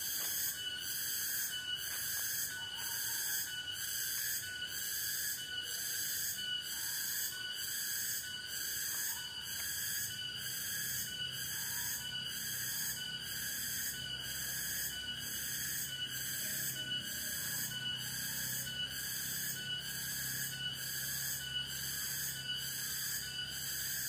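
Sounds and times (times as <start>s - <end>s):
pulsing insect buzz: 0.0s - 24.0s
pulsing insect whistling tone: 0.0s - 24.0s.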